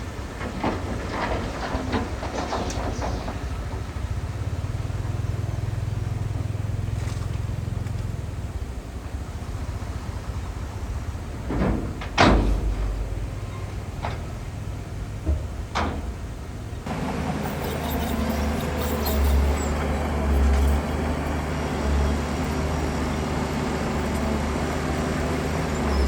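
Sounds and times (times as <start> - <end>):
diesel machinery engine drone: 0.0 - 26.0.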